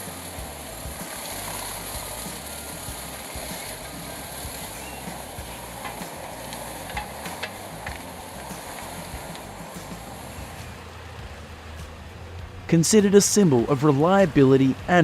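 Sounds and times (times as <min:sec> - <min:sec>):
wood chipper running: 0:00.0 - 0:15.0.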